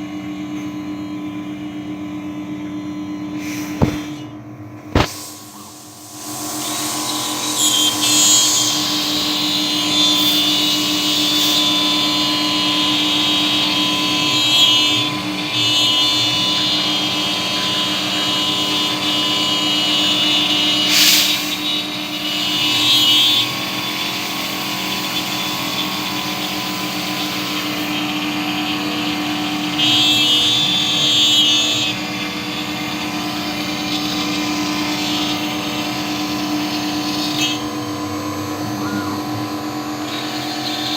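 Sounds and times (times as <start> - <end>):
harsh cutting whine: 2.9 - 40.9
cnc router spindle hum: 4.9 - 40.9.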